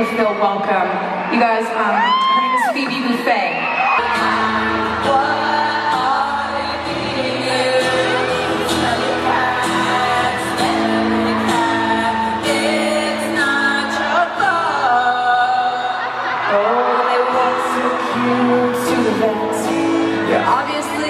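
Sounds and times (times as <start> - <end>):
acoustic guitars strumming: 4.0 - 21.0
woman singing: 4.0 - 21.0.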